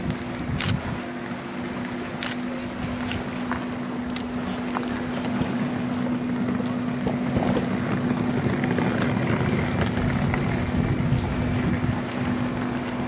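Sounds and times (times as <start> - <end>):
ferry engines humming: 0.0 - 13.0.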